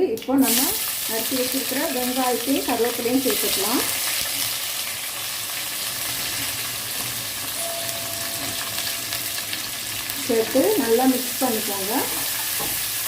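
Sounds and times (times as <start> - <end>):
onions frying in oil sizzle: 0.1 - 13.0.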